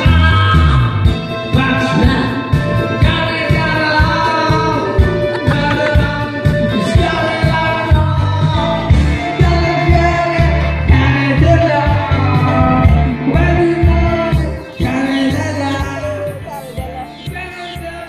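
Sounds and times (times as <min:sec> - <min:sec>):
man singing into a microphone: 0:00.0 - 0:18.0
pop backing track with beat: 0:00.0 - 0:18.0.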